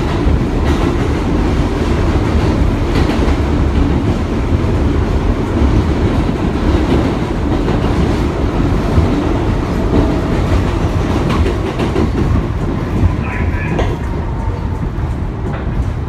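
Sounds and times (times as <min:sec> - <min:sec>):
subway wheels rumbling on rails: 0:00.0 - 0:16.0.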